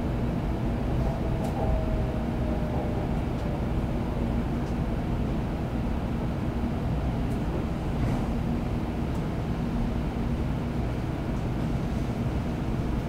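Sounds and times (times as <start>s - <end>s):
faint hum: 0.0s - 13.0s
train cabin rumble: 0.0s - 13.0s.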